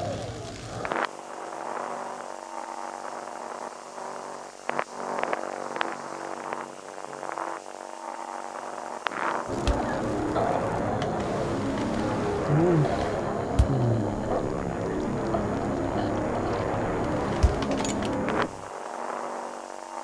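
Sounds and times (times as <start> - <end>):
electric buzzing hum: 0.0 - 20.0.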